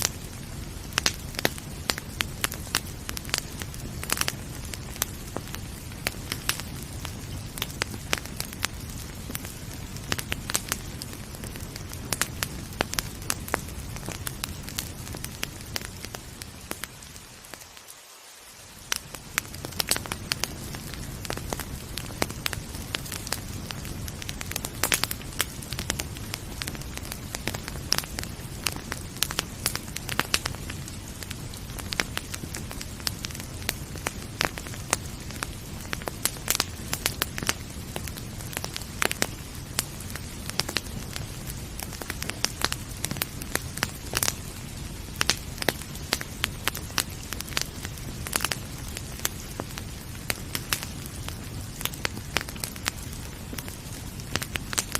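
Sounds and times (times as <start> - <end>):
rain hissing: 0.0 - 54.9
wood fire crackling: 0.0 - 54.9.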